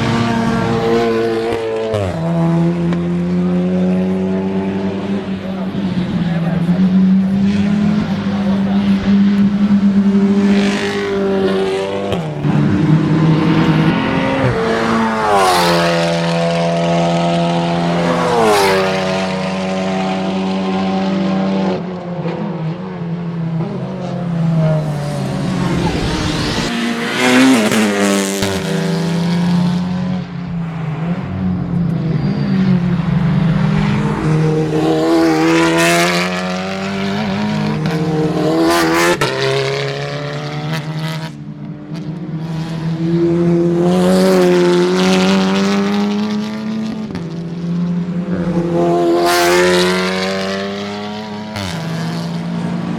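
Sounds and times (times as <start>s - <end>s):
race cars passing at full throttle: 0.0s - 52.9s.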